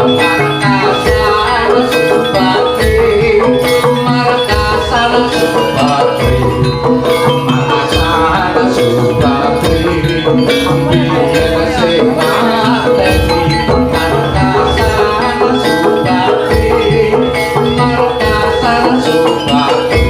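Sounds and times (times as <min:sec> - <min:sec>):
pitched metal percussion: 0:00.0 - 0:20.0
steady drum beat: 0:00.0 - 0:20.0.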